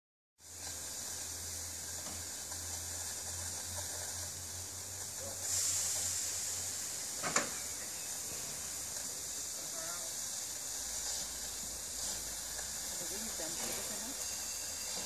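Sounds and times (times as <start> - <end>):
steam hissing: 0.4 - 15.0.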